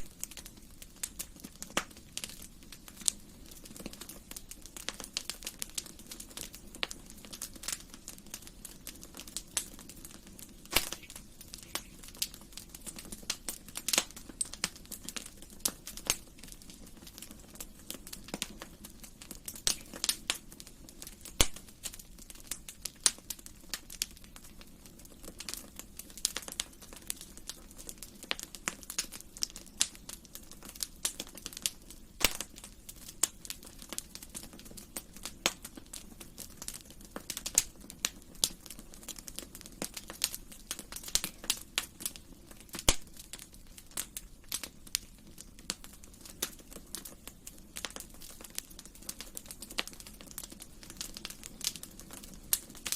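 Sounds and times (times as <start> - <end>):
wood fire crackling in fireplace: 0.0 - 52.9.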